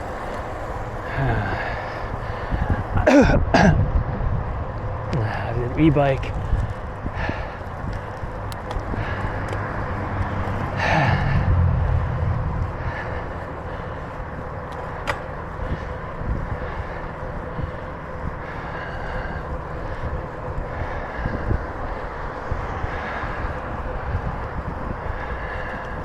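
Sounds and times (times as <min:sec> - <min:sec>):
bicycle rolling on trail: 0:00.0 - 0:26.0
wind rushing over microphone: 0:00.0 - 0:26.0.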